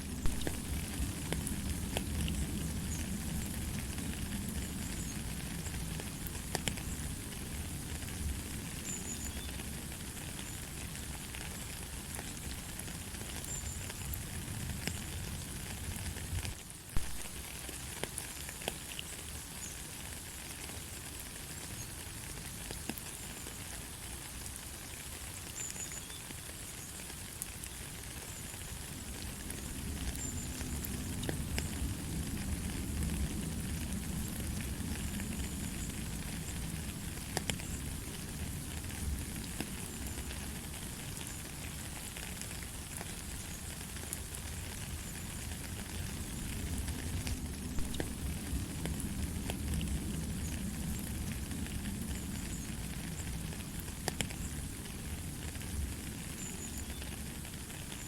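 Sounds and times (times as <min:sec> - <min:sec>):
light rain: 0:00.0 - 0:58.0
raindrops ticking: 0:00.0 - 0:58.0.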